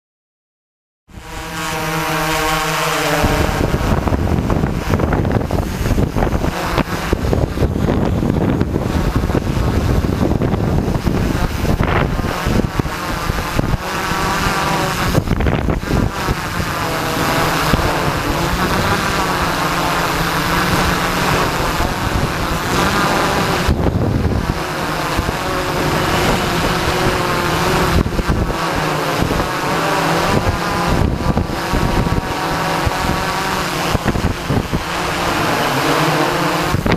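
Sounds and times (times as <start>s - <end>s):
drone motors buzzing: 1.1s - 36.9s
wind buffeting microphone: 1.1s - 36.9s.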